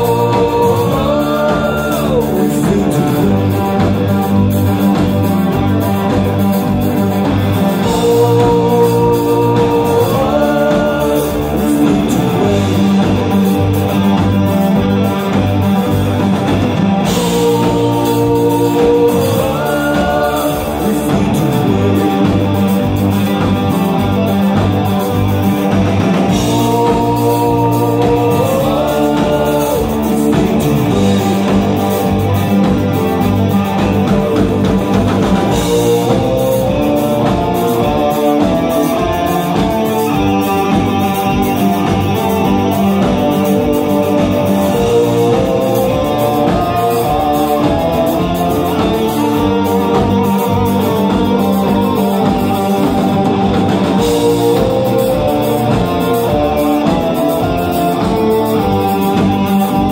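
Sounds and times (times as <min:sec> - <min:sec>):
man singing: 0:00.0 - 0:15.9, 0:16.8 - 0:59.9
bass guitar: 0:00.0 - 0:59.9
drums: 0:00.0 - 0:59.9
electric guitar: 0:00.0 - 0:59.9
keyboard: 0:00.0 - 0:59.9.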